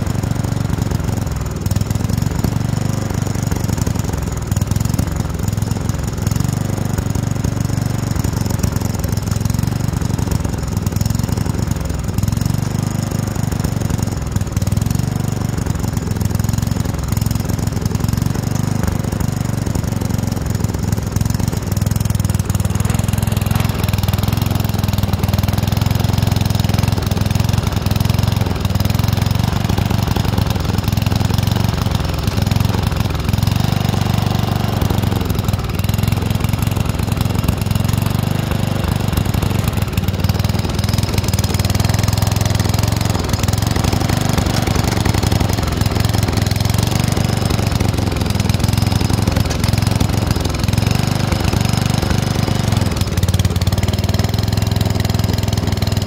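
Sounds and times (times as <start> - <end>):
riding lawn tractor engine running: 0.0 - 56.0.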